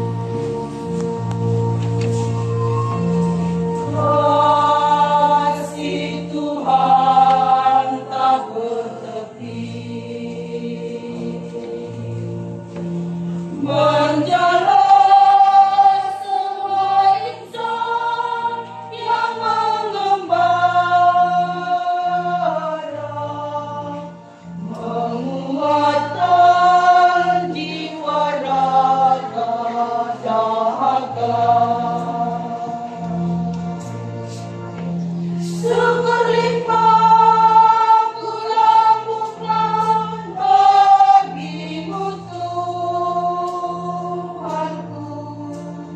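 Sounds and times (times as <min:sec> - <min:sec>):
church choir singing a hymn: 0:00.0 - 0:45.9.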